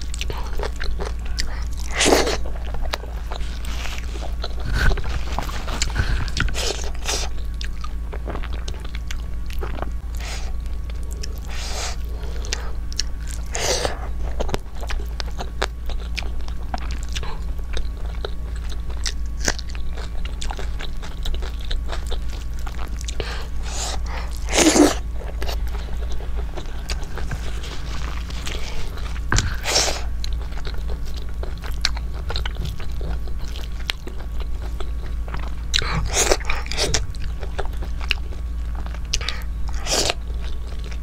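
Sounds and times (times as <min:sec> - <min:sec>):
person chewing: 0:00.0 - 0:41.0
steady low hum: 0:00.0 - 0:41.0.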